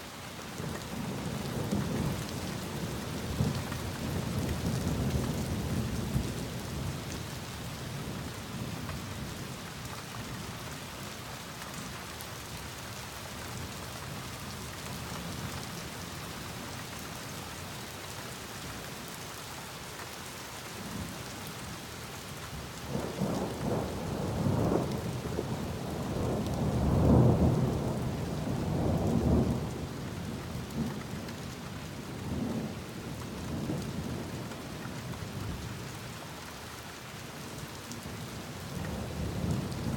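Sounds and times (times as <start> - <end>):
steady rain on surfaces: 0.0 - 39.9.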